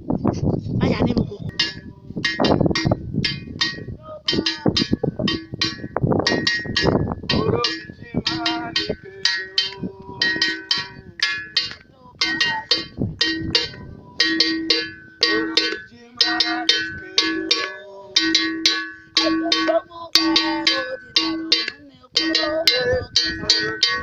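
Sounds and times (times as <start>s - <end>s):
metal bell struck: 1.5s - 24.0s.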